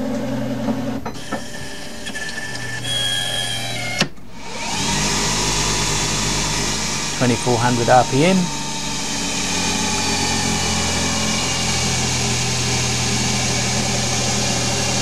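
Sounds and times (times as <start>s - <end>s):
lathe spindle whine: 1.2s - 15.0s.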